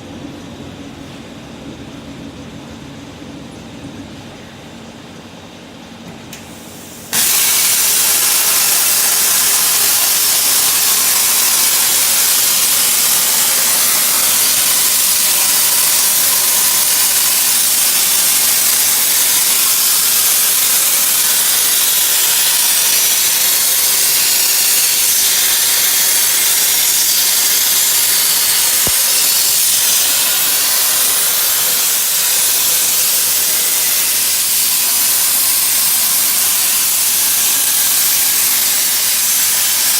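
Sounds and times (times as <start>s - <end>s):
plasma torch hissing: 6.4s - 39.9s.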